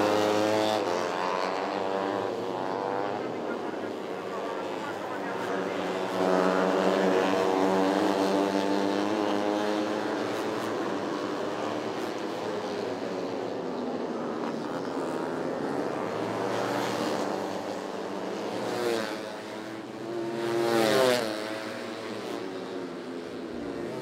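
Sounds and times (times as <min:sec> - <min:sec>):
race motorcycles passing at high revs: 0:00.0 - 0:24.0.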